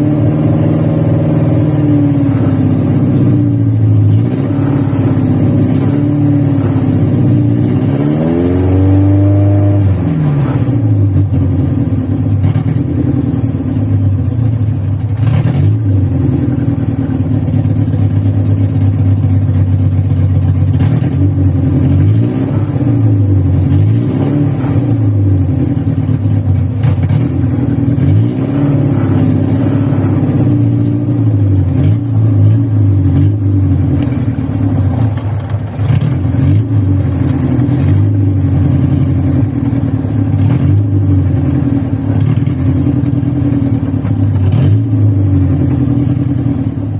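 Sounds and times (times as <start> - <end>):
car engine revving roughly: 0.0 - 46.9.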